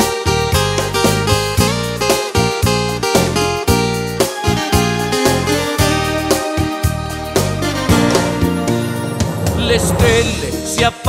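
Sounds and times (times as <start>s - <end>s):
instrumental pop-folk music: 0.0s - 11.0s.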